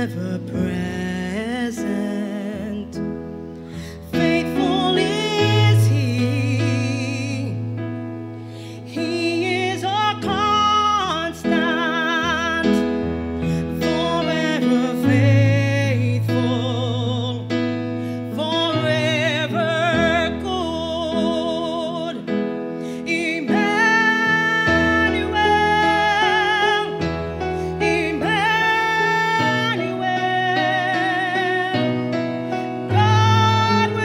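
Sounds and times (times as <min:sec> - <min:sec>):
woman singing gospel: 0:00.0 - 0:03.1, 0:04.0 - 0:07.6, 0:08.9 - 0:17.5, 0:18.3 - 0:32.1, 0:32.8 - 0:34.0.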